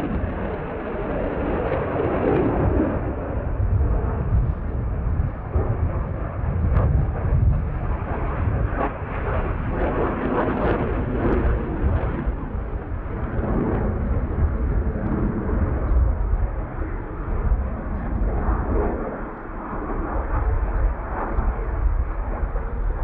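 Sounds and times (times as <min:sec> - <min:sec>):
jet engine rumble: 0:00.0 - 0:23.0.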